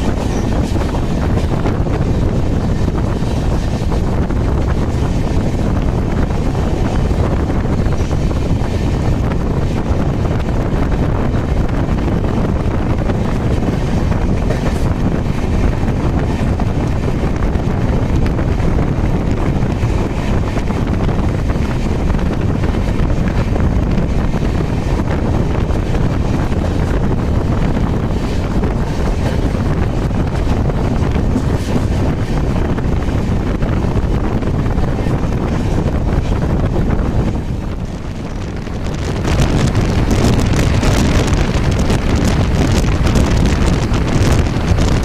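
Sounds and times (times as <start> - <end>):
train coach rumble at speed: 0.0 - 45.0
wind on microphone: 0.0 - 45.0.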